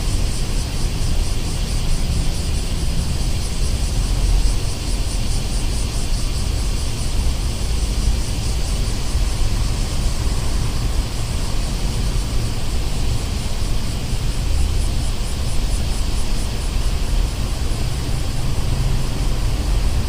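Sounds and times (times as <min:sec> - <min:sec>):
distant traffic rumble: 0:00.0 - 0:20.0
even hiss: 0:00.0 - 0:20.0.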